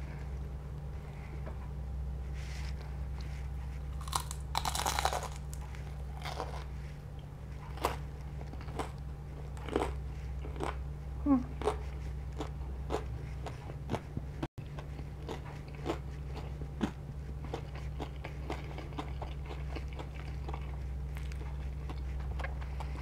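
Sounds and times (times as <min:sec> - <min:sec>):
steady low hum: 0:00.0 - 0:23.0
chewing crispy fried chicken: 0:02.6 - 0:23.0.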